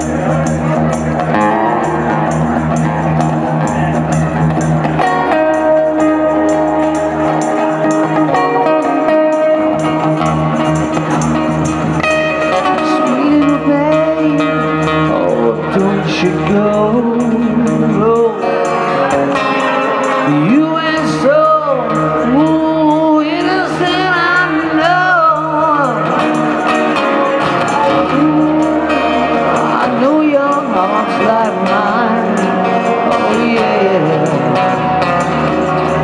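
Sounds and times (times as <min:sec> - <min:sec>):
acoustic guitar: 0:00.0 - 0:36.0
tambourine shaken on a beat: 0:00.0 - 0:36.0.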